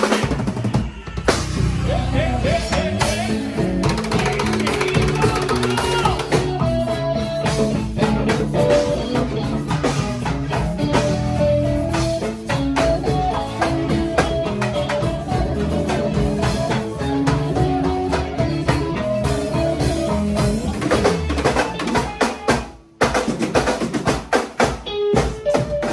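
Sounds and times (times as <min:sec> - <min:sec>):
band playing: 0:00.0 - 0:25.9
drum kit: 0:00.0 - 0:25.9.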